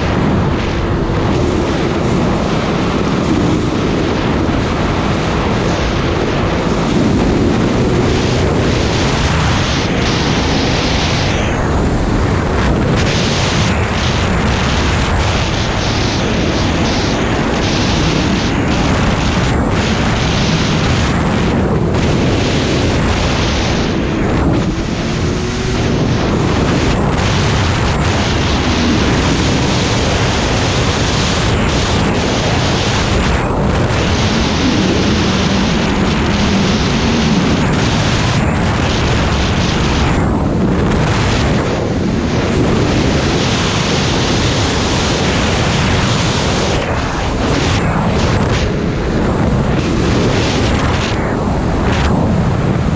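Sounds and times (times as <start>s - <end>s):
snowmobile engine: 0.0s - 52.9s
wind rush on microphone: 0.0s - 52.9s.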